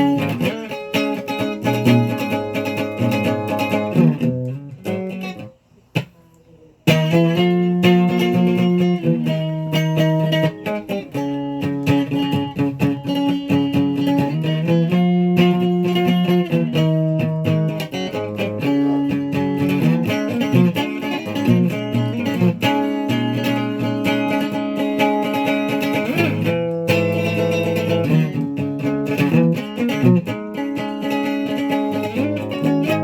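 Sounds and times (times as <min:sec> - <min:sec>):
guitar playing: 0:00.0 - 0:33.0.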